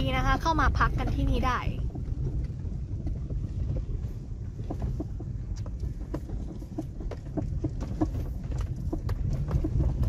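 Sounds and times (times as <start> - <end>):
car driving over rocky track: 0.0 - 10.0
stones knocking under tyres: 1.9 - 10.0.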